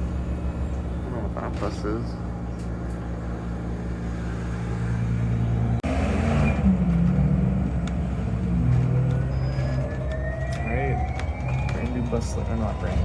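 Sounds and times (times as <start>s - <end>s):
bus drivetrain drone: 0.0s - 13.0s.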